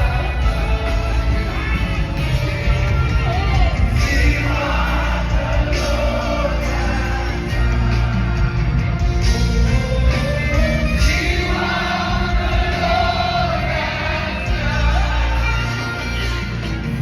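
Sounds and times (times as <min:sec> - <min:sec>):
band with heavy bass: 0:00.0 - 0:17.0
group of voices singing: 0:00.0 - 0:17.0.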